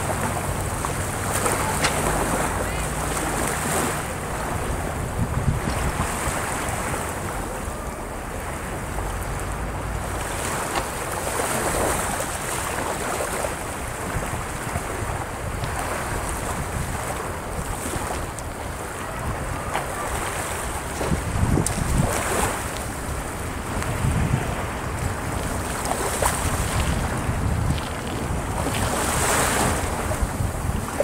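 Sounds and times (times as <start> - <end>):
small waves breaking on shore: 0.0 - 31.0
wind rumbling on microphone: 0.0 - 31.0.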